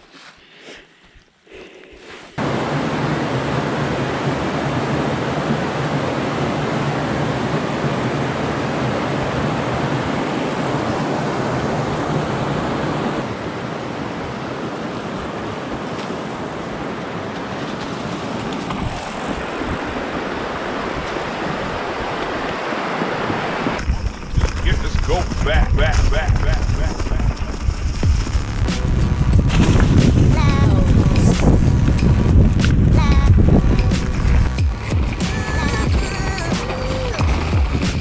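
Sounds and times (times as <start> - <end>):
wind on microphone: 2.4 - 38.0.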